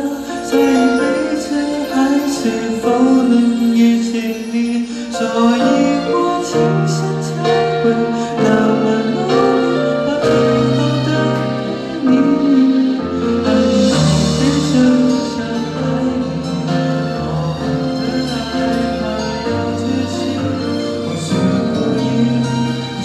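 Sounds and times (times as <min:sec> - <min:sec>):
man singing into microphone: 0:00.0 - 0:23.0
recorded backing track: 0:00.0 - 0:23.0.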